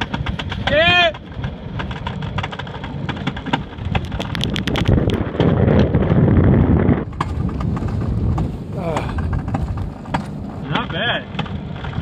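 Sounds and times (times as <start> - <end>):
coaster cart rumbling on steel track: 0.0 - 12.0
wind buffeting microphone: 0.0 - 12.0.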